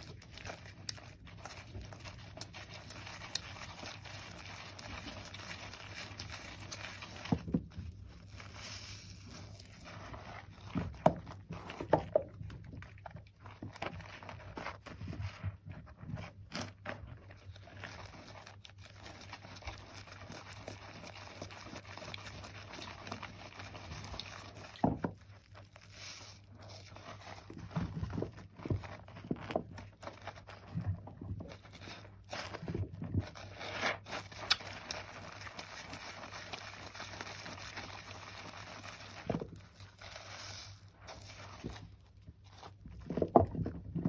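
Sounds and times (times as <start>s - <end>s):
hands lathering wet soap: 0.0s - 43.1s.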